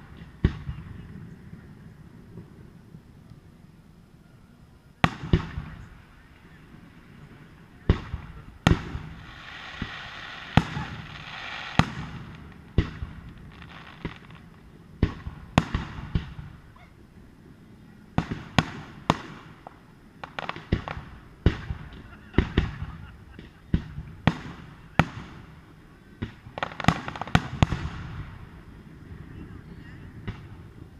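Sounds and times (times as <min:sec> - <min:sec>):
firework hiss: 0:00.0 - 0:30.9
fireworks bursting: 0:00.0 - 0:30.9.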